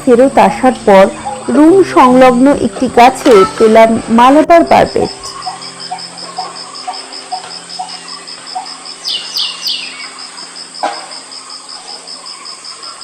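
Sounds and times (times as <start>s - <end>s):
insect pulsing trill: 0.0s - 13.0s.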